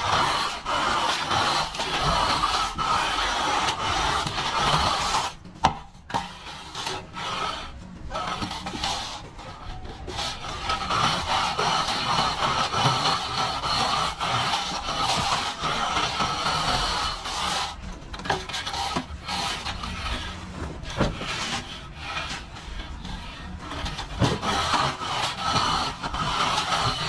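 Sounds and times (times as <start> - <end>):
hand tool scraping plaster: 0.0 - 27.0.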